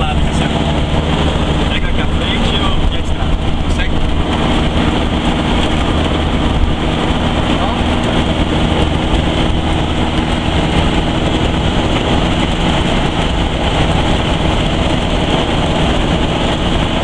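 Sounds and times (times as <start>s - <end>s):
buggy engine drone: 0.0s - 17.0s
road noise: 0.0s - 17.0s
wind noise: 0.0s - 17.0s.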